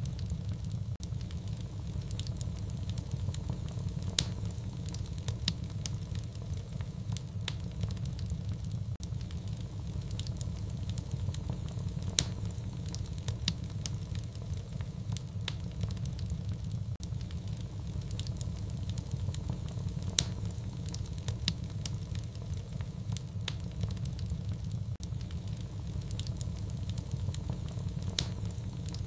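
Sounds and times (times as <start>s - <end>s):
fireplace fire crackling: 0.0s - 29.0s.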